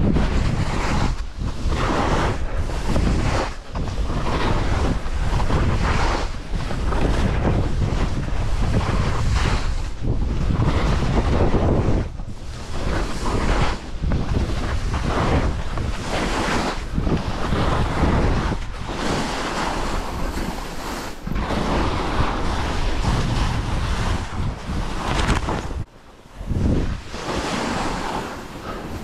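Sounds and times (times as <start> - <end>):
skis scraping over snow: 0.0 - 29.0
wind noise on microphone: 0.0 - 29.0.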